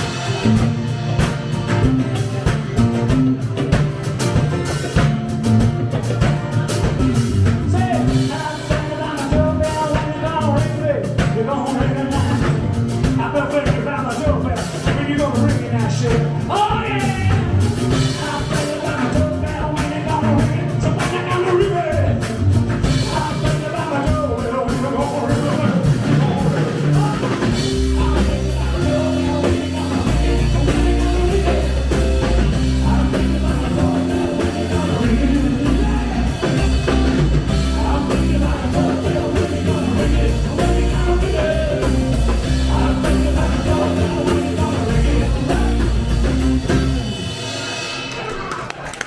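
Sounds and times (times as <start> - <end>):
live rock band playing: 0.0 - 49.0
person singing: 5.9 - 22.2, 22.8 - 46.7.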